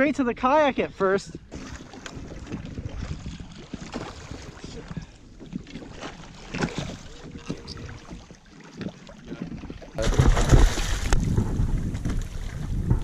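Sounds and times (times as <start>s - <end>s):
water sloshing against kayak hull: 1.3s - 13.0s
wind buffeting microphone: 1.4s - 8.3s, 9.2s - 13.0s.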